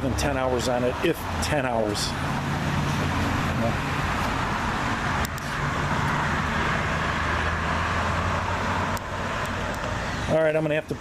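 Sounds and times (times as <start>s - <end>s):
diesel generator running: 0.0s - 11.0s.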